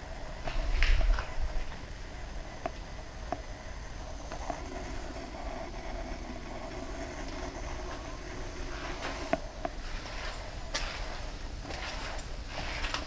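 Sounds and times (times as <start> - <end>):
faint hum: 0.0 - 13.0
low rumble: 0.0 - 13.0.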